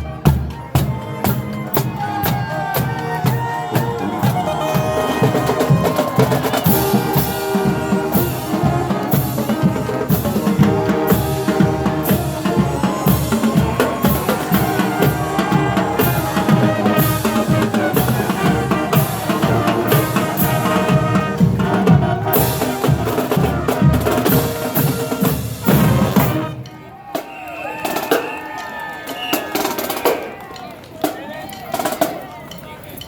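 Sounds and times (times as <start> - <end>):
snare and bass drums: 0.0 - 30.4
marching band playing: 0.0 - 33.0.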